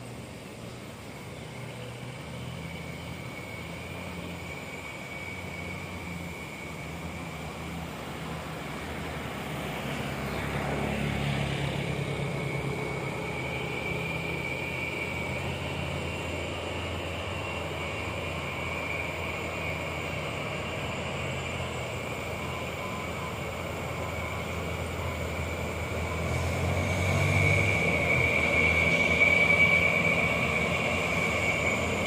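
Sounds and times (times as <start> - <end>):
diesel truck engines droning: 0.0 - 32.0
thin high whine: 0.0 - 32.0.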